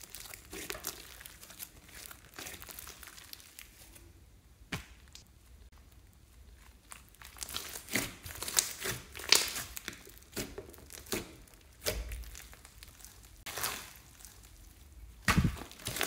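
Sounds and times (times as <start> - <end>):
slime crackling and squishing: 0.0 - 4.1, 5.0 - 16.0.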